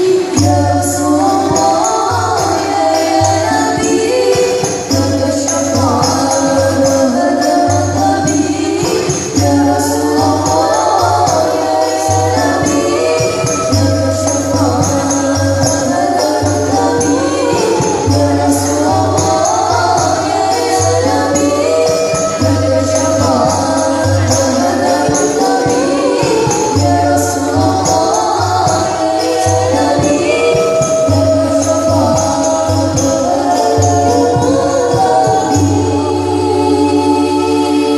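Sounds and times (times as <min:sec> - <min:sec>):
percussion with tambourine jingles: 0:00.0 - 0:37.9
voices singing devotional music: 0:00.0 - 0:37.9.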